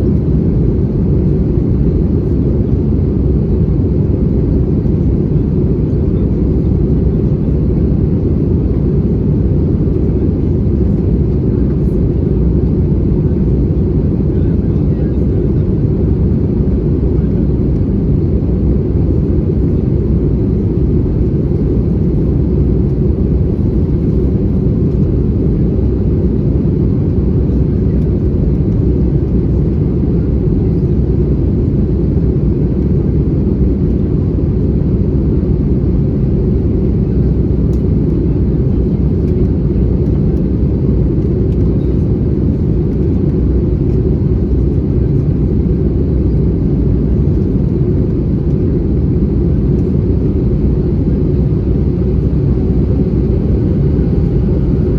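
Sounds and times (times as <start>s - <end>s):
airflow over fuselage: 0.0s - 54.9s
jet engines rumbling: 0.0s - 54.9s.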